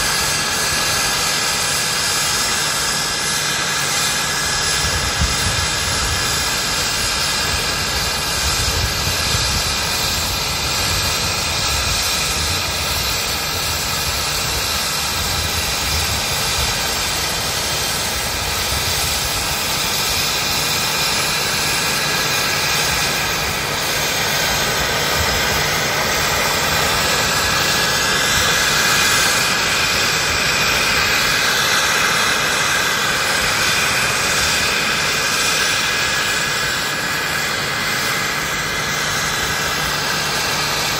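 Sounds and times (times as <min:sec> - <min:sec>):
model helicopter whining: 0:00.0 - 0:40.9.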